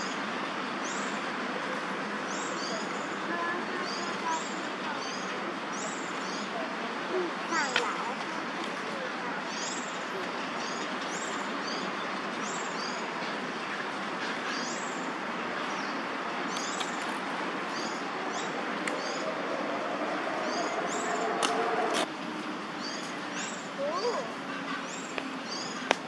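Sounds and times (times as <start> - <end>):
city traffic hum: 0.0 - 26.0.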